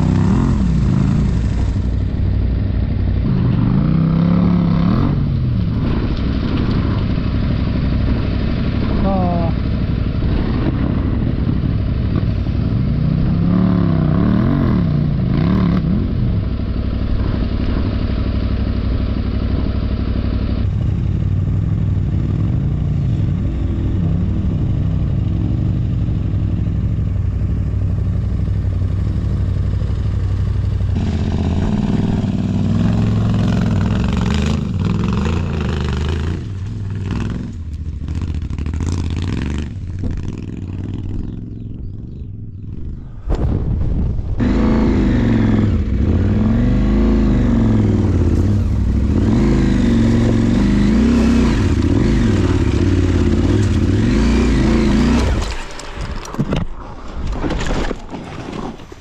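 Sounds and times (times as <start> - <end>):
motorcycle engine revving: 0.0 - 56.1.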